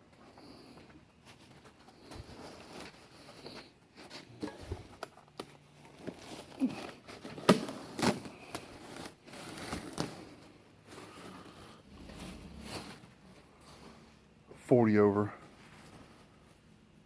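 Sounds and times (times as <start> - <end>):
crinkling and rustling: 0.0 - 14.4, 15.3 - 17.0.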